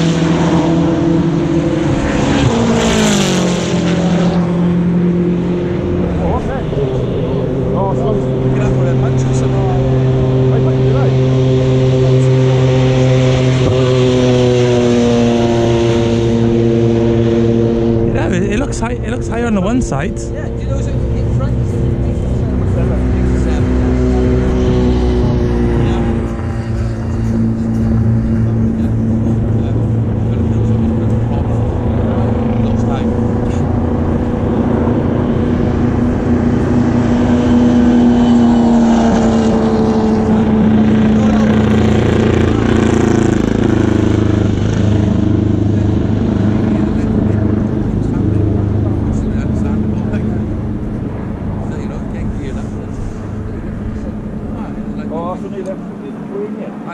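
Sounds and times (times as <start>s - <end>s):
race car engine running: 0.0s - 56.9s.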